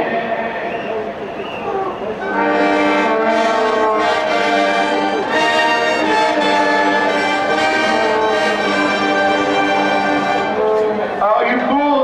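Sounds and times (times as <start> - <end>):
marching band brass chords: 0.0 - 11.8.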